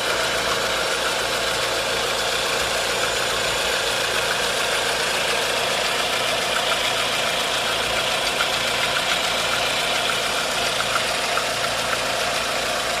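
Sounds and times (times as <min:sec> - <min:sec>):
car engine idling: 0:00.0 - 0:13.0
light irregular engine ticking: 0:00.0 - 0:13.0.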